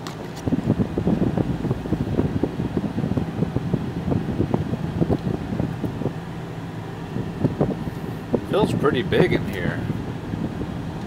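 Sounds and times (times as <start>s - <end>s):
car engine and fan hum: 0.0s - 11.0s
low thumps and rumbles: 0.0s - 11.0s.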